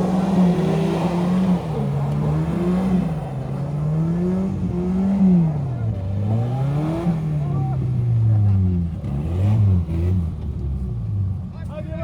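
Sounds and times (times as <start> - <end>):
off-road vehicle engine revving: 0.0 - 11.5.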